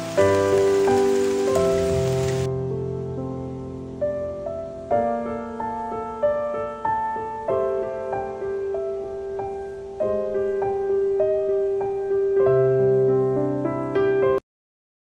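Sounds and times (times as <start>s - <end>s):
gentle piano chords: 0.0s - 14.4s.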